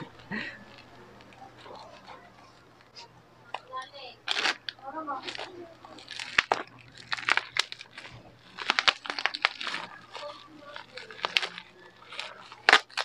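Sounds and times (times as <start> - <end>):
bubble wrap crackling: 0.0 - 13.0.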